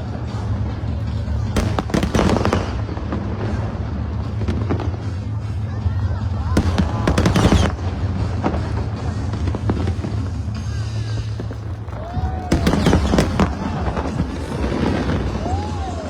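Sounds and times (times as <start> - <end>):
fireworks bangs: 1.2 - 16.0.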